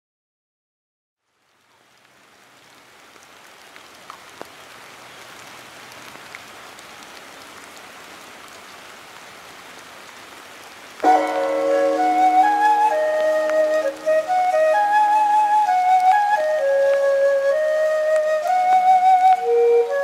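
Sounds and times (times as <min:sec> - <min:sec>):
steady rain falling: 0:01.2 - 0:20.0.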